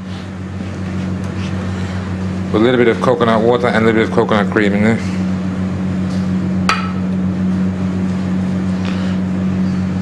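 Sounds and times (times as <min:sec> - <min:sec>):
kitchen equipment humming: 0:00.0 - 0:10.0.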